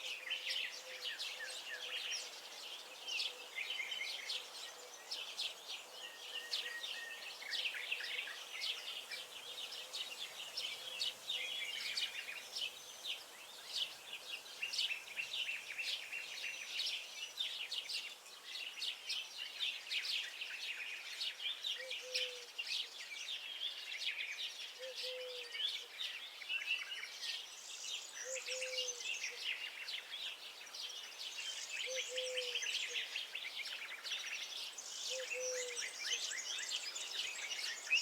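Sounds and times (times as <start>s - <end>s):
songbirds chirping and singing: 0.0s - 38.0s.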